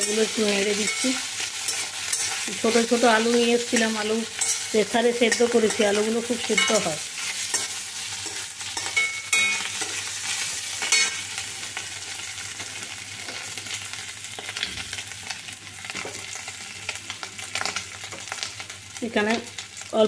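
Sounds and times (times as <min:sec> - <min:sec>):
potatoes sizzling in oil: 0:00.0 - 0:20.0.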